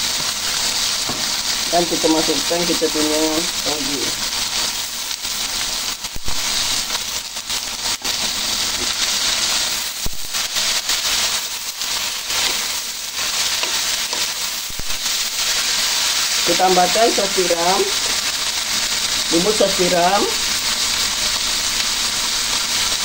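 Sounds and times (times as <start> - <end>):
noodles sizzling in a wok: 0.0 - 23.0.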